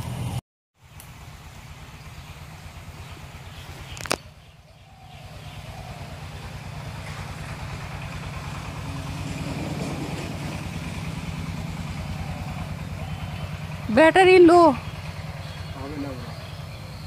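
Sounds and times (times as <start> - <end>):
engine running with low throb: 0.0 - 17.0.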